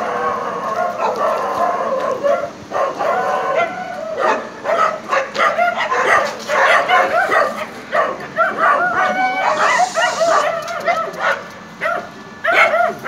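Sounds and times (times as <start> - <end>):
dog barking and yipping: 0.6 - 13.0.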